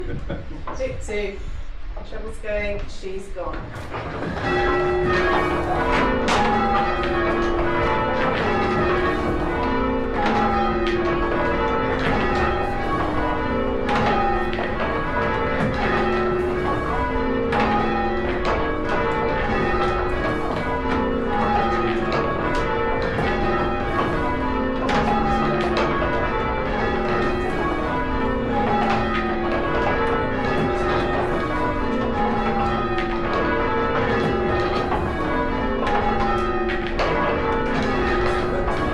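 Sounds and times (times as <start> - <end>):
church bells ringing changes: 3.7 - 38.9.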